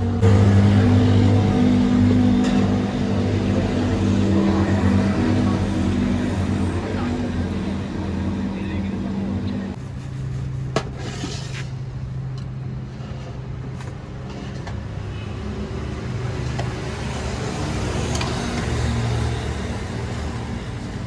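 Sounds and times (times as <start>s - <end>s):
traffic engine hum: 0.0s - 21.0s.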